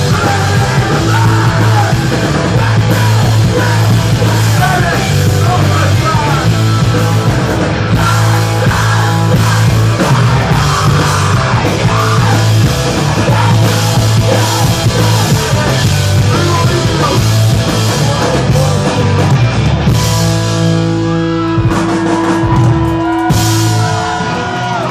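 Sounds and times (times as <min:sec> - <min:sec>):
punk rock band playing loud: 0:00.0 - 0:24.9.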